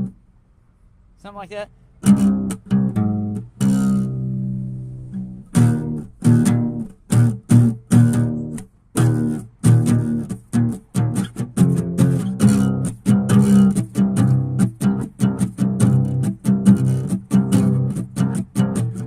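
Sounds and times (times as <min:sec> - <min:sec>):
plucked bass guitar: 0:02.0 - 0:19.0.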